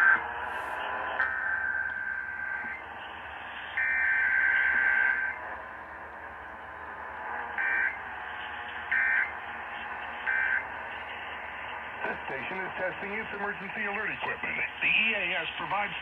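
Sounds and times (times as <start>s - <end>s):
radio hiss: 0.0s - 1.4s, 2.4s - 7.5s, 8.1s - 16.0s
harsh buzzing data tones: 0.0s - 15.9s.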